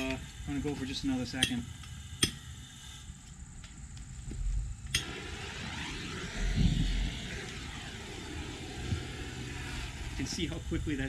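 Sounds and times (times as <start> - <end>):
burner flame rushing: 0.0 - 11.0
low rumble: 0.0 - 11.0.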